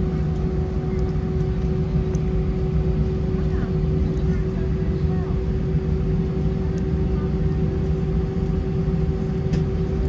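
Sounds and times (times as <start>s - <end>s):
airplane cabin drone: 0.0s - 10.0s
low rumble with mid-pitched hum: 0.0s - 10.0s.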